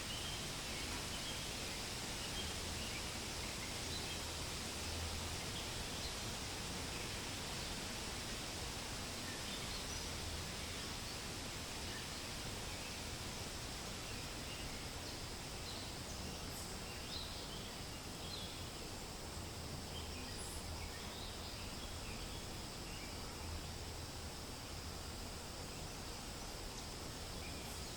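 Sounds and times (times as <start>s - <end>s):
wind rustling through leaves: 0.0s - 27.9s.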